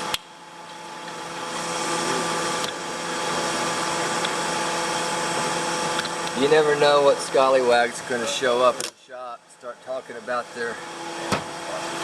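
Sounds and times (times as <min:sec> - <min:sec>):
electric fan whirring hum: 0:00.0 - 0:12.0.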